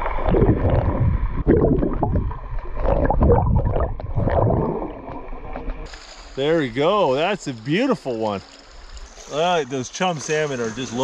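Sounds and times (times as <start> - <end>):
bubbling: 0.0 - 9.8
underwater river gurgling: 0.0 - 11.0.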